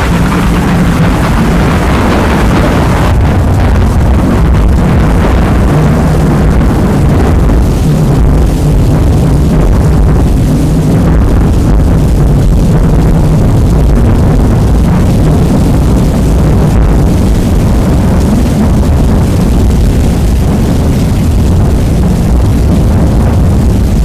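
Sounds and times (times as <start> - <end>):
distorted rain rumble: 0.0 - 24.0.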